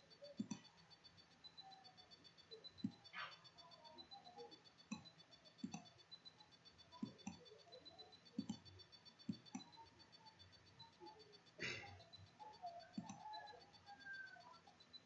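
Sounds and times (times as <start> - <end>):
faint clicks: 0.2 - 14.9.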